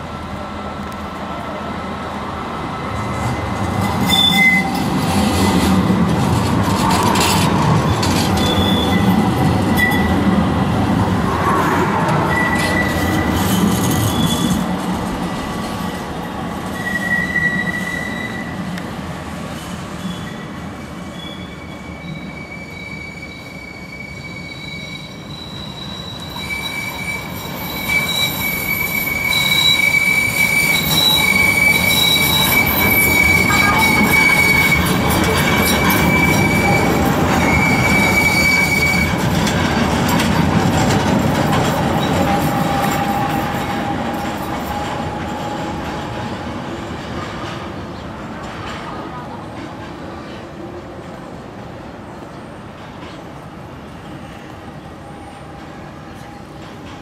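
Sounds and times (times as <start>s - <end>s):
tram rumbling past: 0.0s - 57.0s
tram wheels squealing on rails: 2.8s - 57.0s.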